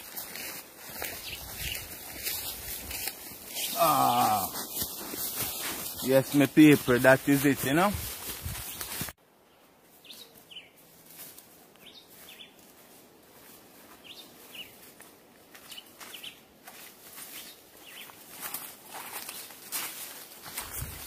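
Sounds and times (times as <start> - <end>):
footsteps on dry leaves: 0.0 - 9.2, 10.8 - 21.0.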